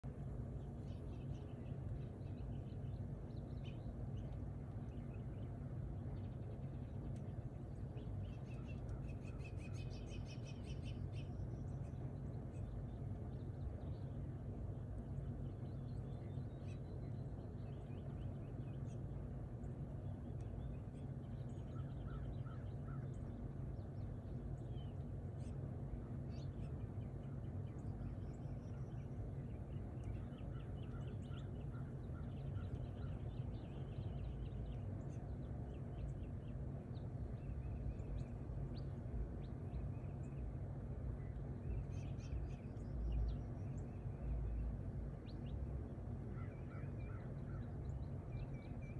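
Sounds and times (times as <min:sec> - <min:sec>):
songbirds chirping and trilling: 0:00.0 - 0:48.9
steady low hum: 0:00.0 - 0:48.9.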